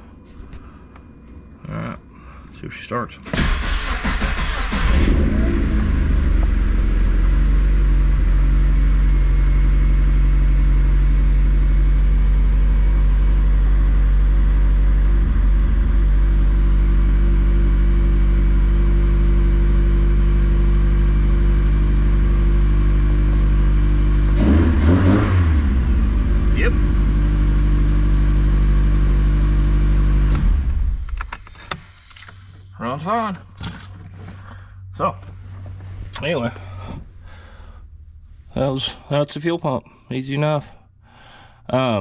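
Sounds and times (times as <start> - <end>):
car engine idling: 3.2 - 42.0.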